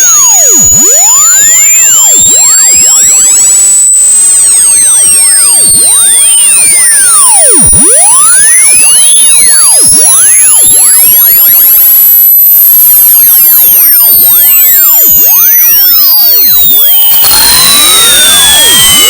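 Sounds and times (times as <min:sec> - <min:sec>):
faint swooping whistling tones: 0:00.0 - 0:19.0
high pure tone rising: 0:00.0 - 0:19.0.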